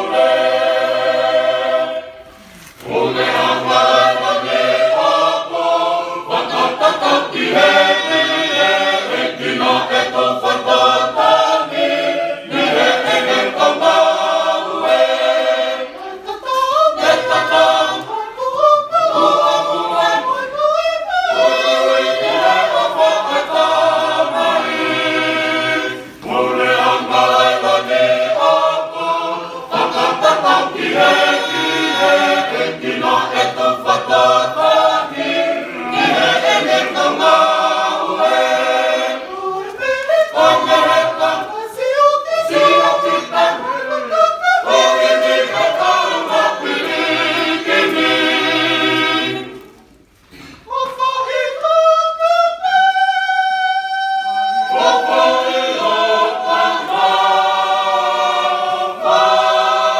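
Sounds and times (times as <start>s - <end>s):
choir singing a hymn a cappella: 0.0s - 59.9s.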